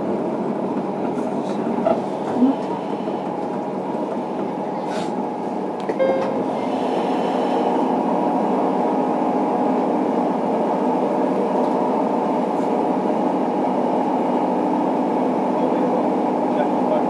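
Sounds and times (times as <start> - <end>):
train motors and wheels rumbling: 0.0 - 17.0.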